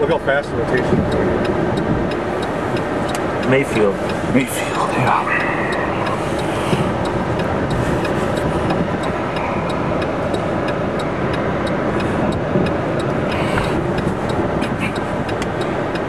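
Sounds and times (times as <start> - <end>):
rain rushing on car: 0.0 - 16.0
windshield wipers sweeping: 0.0 - 16.0.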